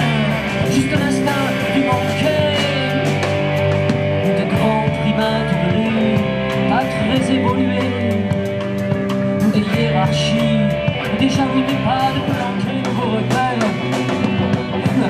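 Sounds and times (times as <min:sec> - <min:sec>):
man singing into a microphone: 0:00.0 - 0:03.3, 0:04.2 - 0:15.0
bass guitar: 0:00.0 - 0:15.0
drum kit with cymbals: 0:00.0 - 0:15.0
electric guitar: 0:00.0 - 0:15.0.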